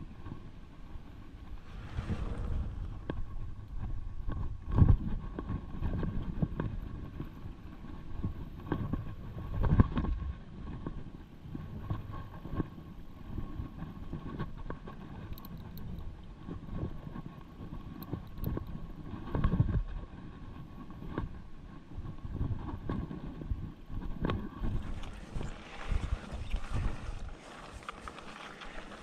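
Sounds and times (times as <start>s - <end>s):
bike tyre rumble: 0.0s - 29.0s
wind buffeting microphone: 0.0s - 29.0s.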